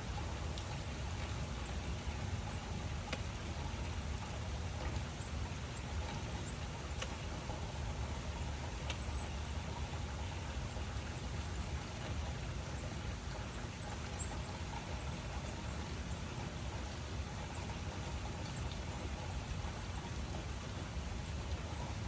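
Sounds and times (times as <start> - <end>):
faint drip ticks: 0.0 - 22.0
steady rain falling: 0.0 - 22.0.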